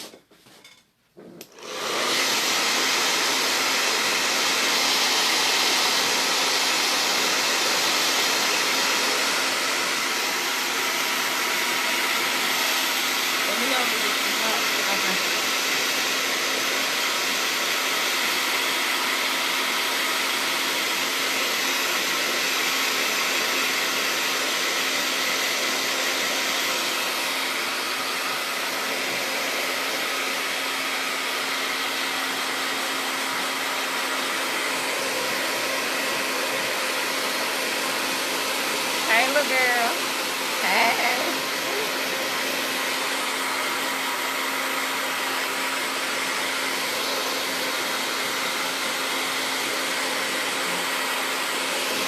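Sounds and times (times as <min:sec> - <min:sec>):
hair dryer blowing: 0:01.2 - 0:52.0.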